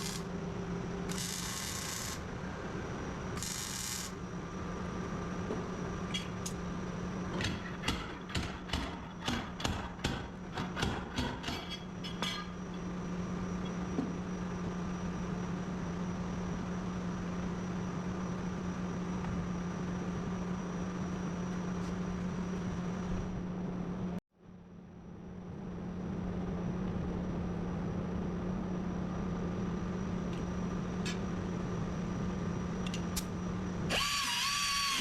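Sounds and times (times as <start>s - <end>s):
mechanical hum with high whine: 0.0s - 35.0s.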